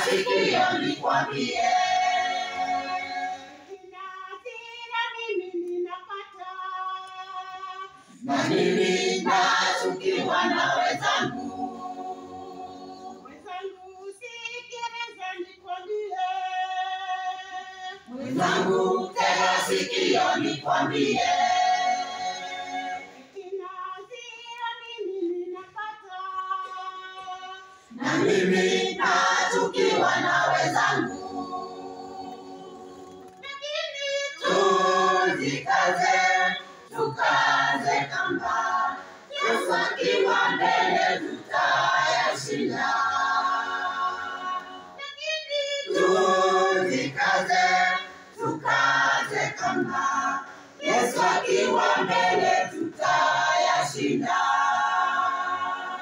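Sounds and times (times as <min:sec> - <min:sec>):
women's choir singing a hymn: 0:00.0 - 0:05.2, 0:06.3 - 0:56.0.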